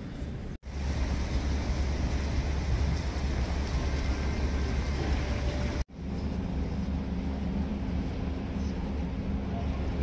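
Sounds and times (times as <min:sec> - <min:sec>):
outdoor background rumble: 0:00.0 - 0:10.0
steady low hum: 0:00.0 - 0:10.0.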